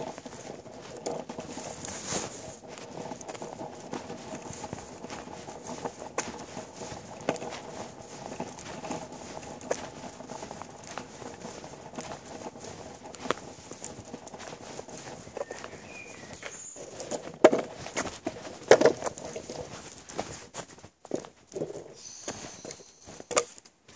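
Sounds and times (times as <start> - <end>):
longboard wheels rolling on tarmac: 0.0 - 23.9.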